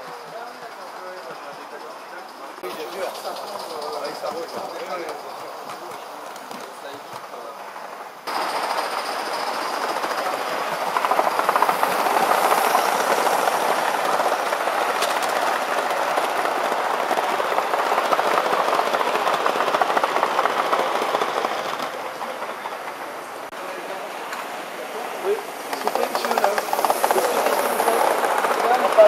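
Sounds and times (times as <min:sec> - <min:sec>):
model train clattering on track: 0:00.0 - 0:29.0.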